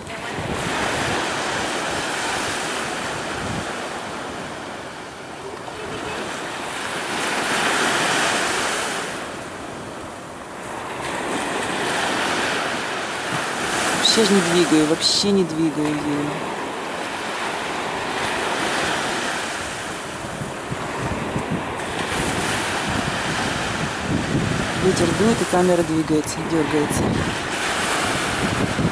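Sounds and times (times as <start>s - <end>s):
wind buffeting microphone: 0.0s - 14.0s, 16.9s - 28.9s
surf breaking on beach: 0.0s - 28.9s.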